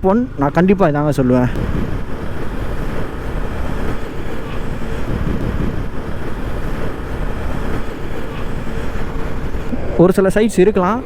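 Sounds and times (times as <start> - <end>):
faint steady hum: 0.0 - 11.0
motorcycle engine and road noise: 0.0 - 11.0
wind rushing over microphone: 0.0 - 11.0.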